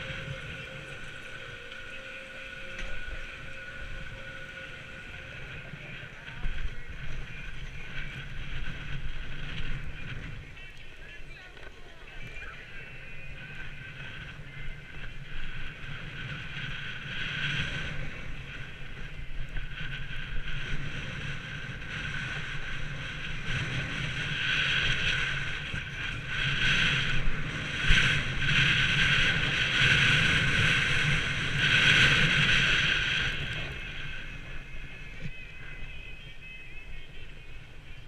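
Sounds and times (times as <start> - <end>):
skis scraping over snow: 0.0 - 38.0
wind on microphone: 0.0 - 38.0.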